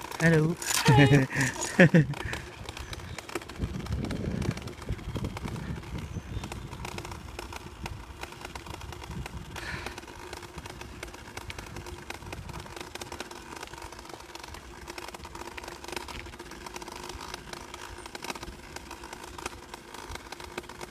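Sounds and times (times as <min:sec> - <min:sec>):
bicycle tyres rumbling on pavement: 0:00.0 - 0:20.9
bike rattles and clicks: 0:00.0 - 0:20.9.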